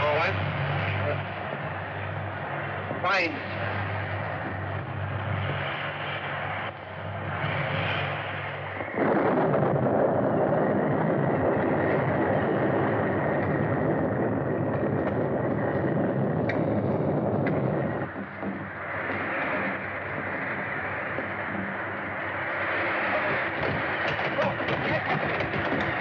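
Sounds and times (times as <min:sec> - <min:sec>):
loud rushing roar: 0:00.0 - 0:26.0
low rumbling noise: 0:00.0 - 0:26.0.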